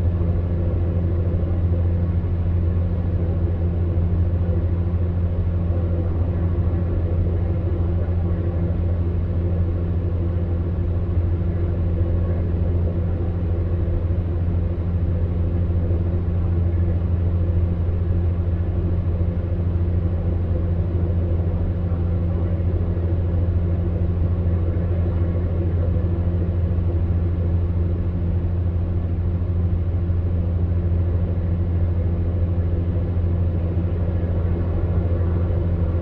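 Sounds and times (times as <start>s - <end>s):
fan heater running: 0.0s - 36.0s.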